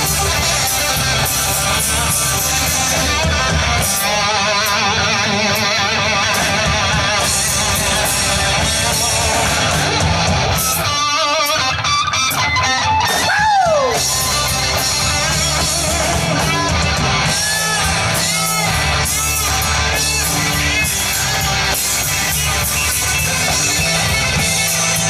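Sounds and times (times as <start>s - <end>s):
bass and drums: 0.0s - 25.0s
electric guitar lead: 0.0s - 25.0s.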